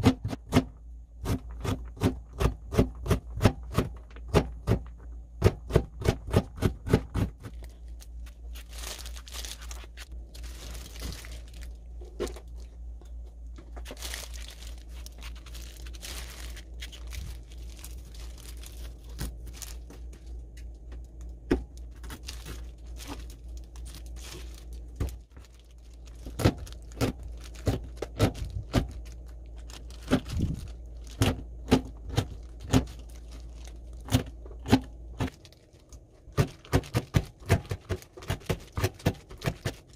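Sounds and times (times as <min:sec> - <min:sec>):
rubbing and scraping chili peppers: 0:05.8 - 0:20.8, 0:21.8 - 0:39.9.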